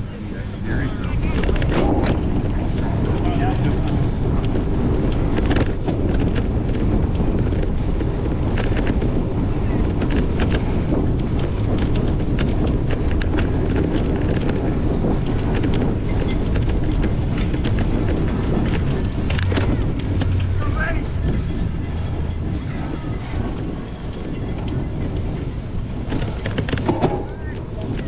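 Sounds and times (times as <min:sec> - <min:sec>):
bike rattling over rough ground: 0:00.0 - 0:28.0
low rumble: 0:00.0 - 0:28.0
wind buffeting microphone: 0:00.0 - 0:28.0.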